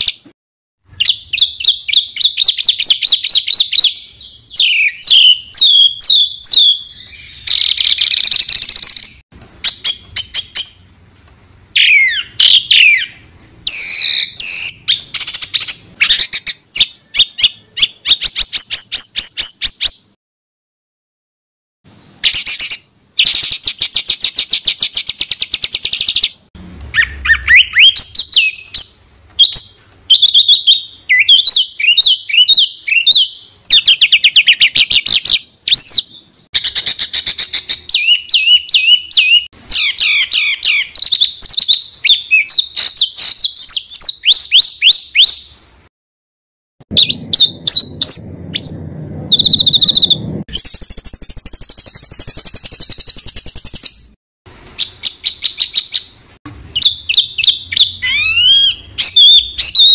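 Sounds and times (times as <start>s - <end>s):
songbirds singing rapid trills: 0.9s - 11.0s, 11.8s - 20.1s, 22.2s - 45.6s, 46.9s - 54.2s, 56.8s - 59.9s.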